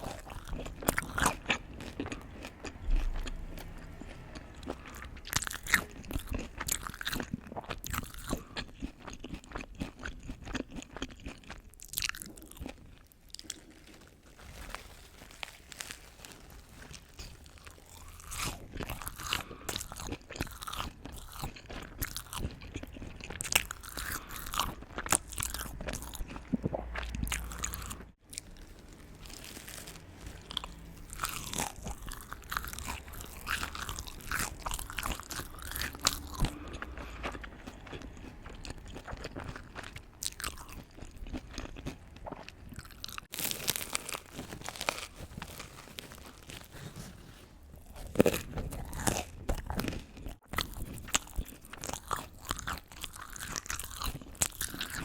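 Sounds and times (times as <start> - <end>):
crunchy food being chewed: 0.0 - 55.0.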